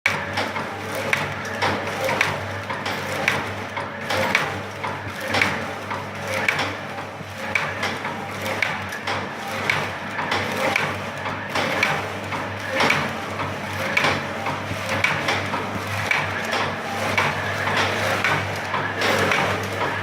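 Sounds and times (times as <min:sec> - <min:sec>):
machine electric hum: 0:00.1 - 0:20.0
packing machine clacking: 0:00.1 - 0:20.0.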